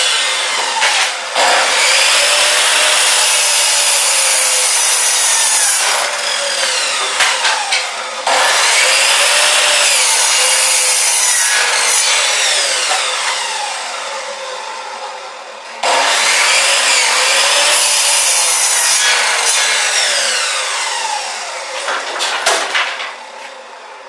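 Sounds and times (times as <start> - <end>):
power saw motor whine: 0.0 - 22.3
saw cutting wood: 0.0 - 23.8.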